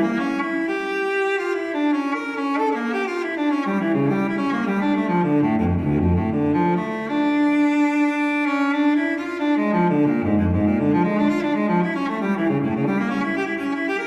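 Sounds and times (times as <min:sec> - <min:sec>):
slow solo cello melody: 0:00.0 - 0:14.0.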